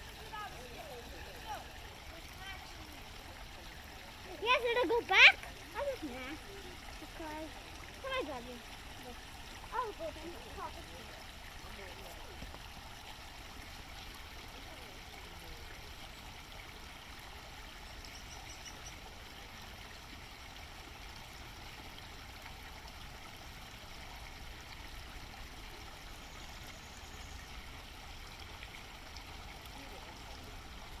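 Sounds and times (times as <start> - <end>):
brook flowing: 0.0 - 31.0.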